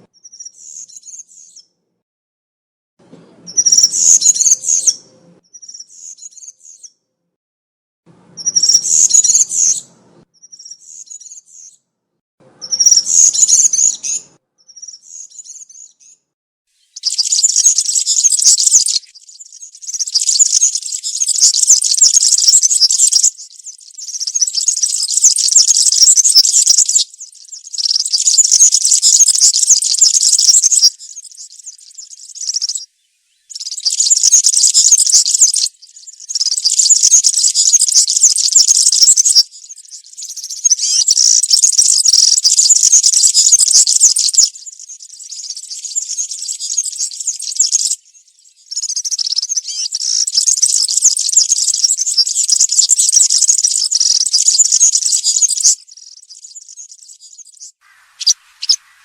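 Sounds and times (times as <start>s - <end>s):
bird singing high-pitched jingling song: 0.0s - 1.7s, 3.5s - 6.9s, 8.4s - 11.8s, 12.6s - 16.2s, 16.8s - 32.9s, 33.5s - 59.0s.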